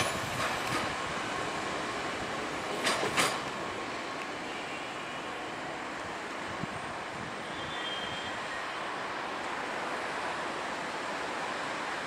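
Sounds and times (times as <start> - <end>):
diesel train running on track: 0.0 - 12.0.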